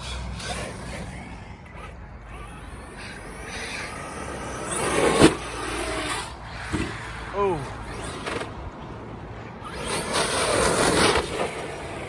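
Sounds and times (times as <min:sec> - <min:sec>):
electric motor running: 0:00.0 - 0:12.0.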